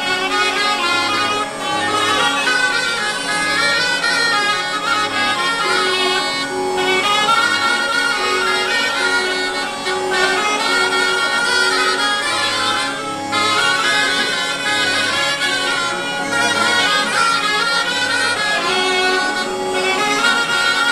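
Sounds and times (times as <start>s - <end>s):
bagpipe: 0.0s - 20.9s
button accordion: 0.0s - 20.9s.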